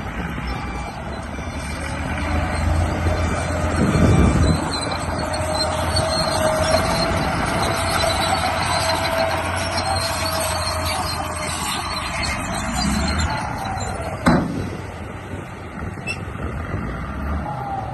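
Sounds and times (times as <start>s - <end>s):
model bulldozer mechanical whine: 0.0s - 17.9s.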